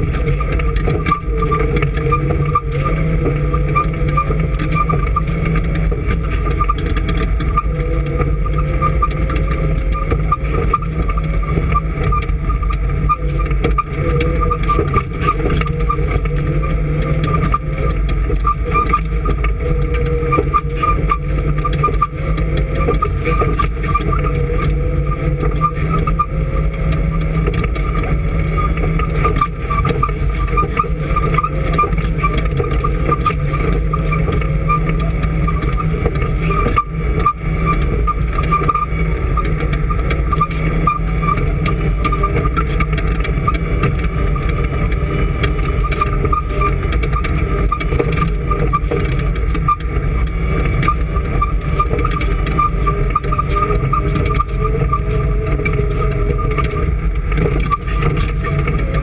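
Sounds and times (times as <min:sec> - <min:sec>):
high whine: 0:00.0 - 0:59.0
race vehicle engine running hard: 0:00.0 - 0:59.0.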